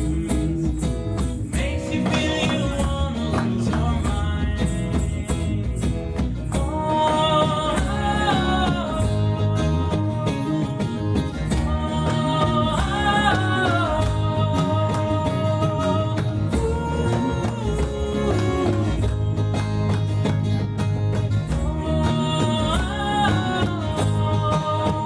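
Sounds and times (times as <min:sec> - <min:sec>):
man singing: 0:00.0 - 0:20.3, 0:21.5 - 0:25.0
electric bass: 0:00.0 - 0:25.0
frame drum: 0:00.0 - 0:25.0
strummed acoustic guitar: 0:00.0 - 0:25.0.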